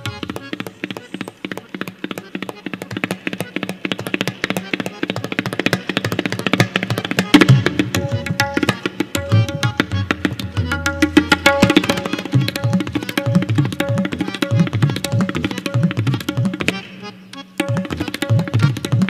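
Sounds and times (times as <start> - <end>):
tabla drumming: 0.0 - 19.0.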